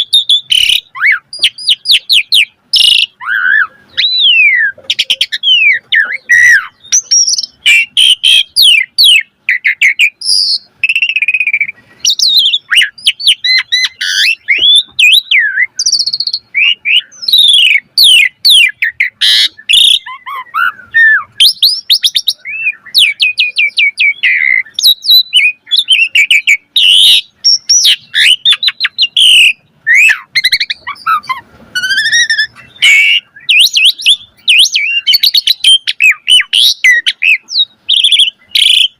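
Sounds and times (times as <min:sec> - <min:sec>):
starling singing varied song: 0:00.0 - 0:38.9.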